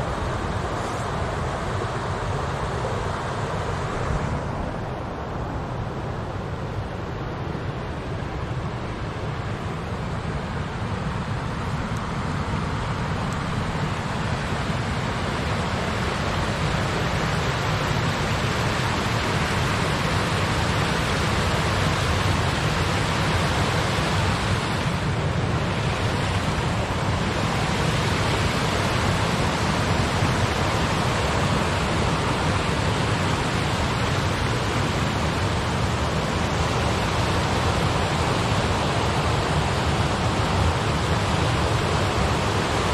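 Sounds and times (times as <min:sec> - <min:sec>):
river water rushing over rocks: 0:00.0 - 0:42.9.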